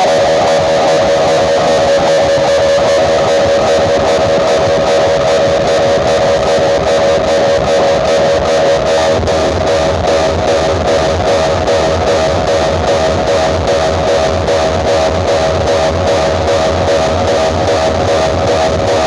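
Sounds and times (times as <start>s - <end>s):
loud guitar music over pa system: 0.0s - 19.0s.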